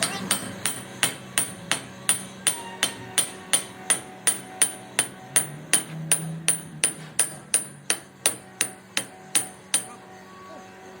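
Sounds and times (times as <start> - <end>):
hammer striking metal: 0.0 - 10.1.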